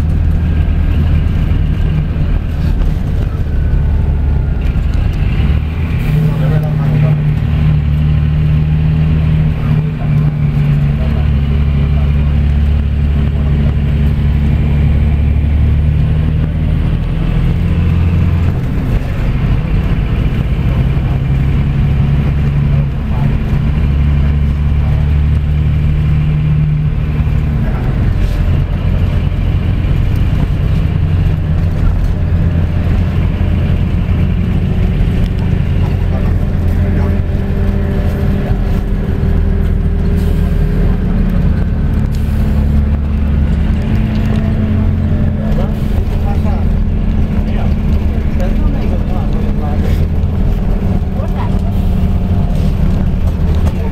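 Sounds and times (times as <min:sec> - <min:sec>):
coach diesel engine drone: 0:00.0 - 0:53.9
tyre and road noise: 0:00.0 - 0:53.9.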